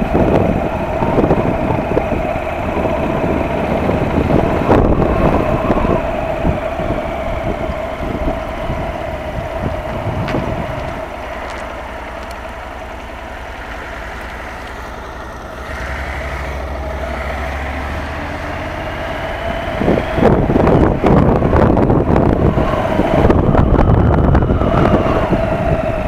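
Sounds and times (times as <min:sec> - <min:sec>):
wind rushing over microphone: 0:00.0 - 0:12.6, 0:15.6 - 0:26.0
motorcycle engine running: 0:00.0 - 0:26.0.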